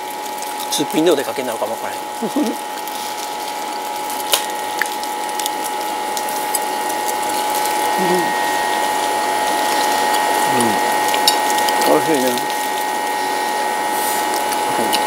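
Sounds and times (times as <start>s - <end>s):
machine whirring with whine: 0.0s - 15.0s.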